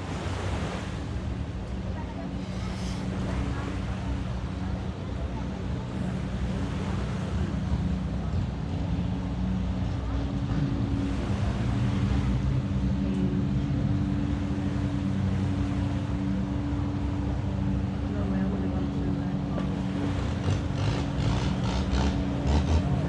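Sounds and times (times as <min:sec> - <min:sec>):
boat engine droning: 0:00.0 - 0:23.0
surf: 0:00.0 - 0:23.0
wind: 0:00.0 - 0:23.0.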